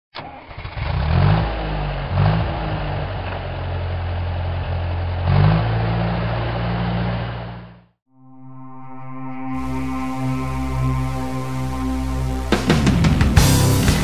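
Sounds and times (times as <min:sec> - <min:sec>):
engine revving: 0:00.2 - 0:07.9, 0:09.5 - 0:14.0.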